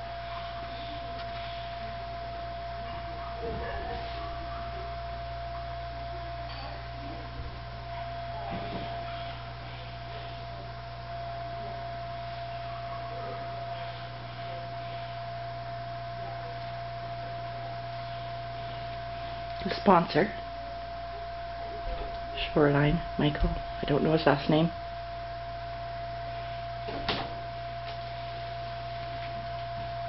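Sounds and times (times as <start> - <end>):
high-pitched whine: 0.0 - 30.0
low electrical drone: 0.0 - 30.0.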